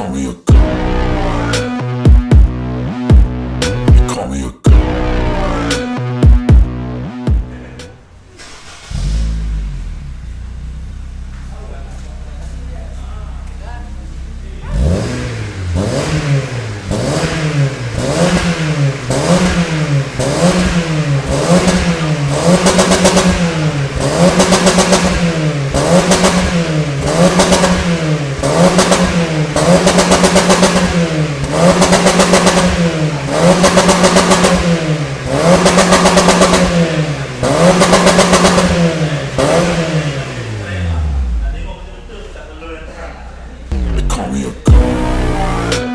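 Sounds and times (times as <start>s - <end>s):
car engine revving: 0.5s - 4.1s, 4.7s - 45.9s.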